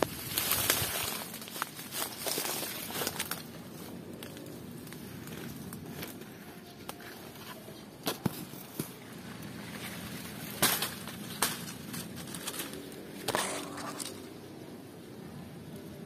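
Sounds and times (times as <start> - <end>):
leaves and twigs rustling: 0.0 - 15.1.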